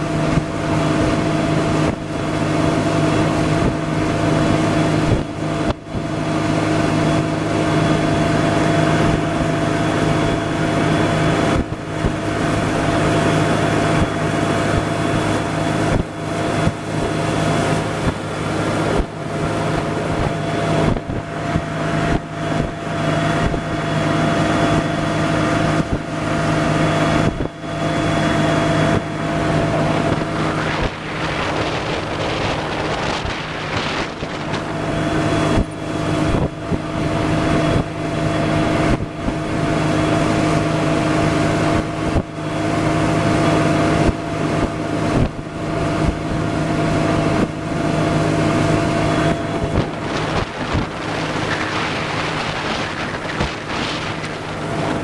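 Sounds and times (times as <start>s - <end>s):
motorboat engine running: 0.0s - 55.0s
wind rushing over microphone: 0.0s - 55.0s.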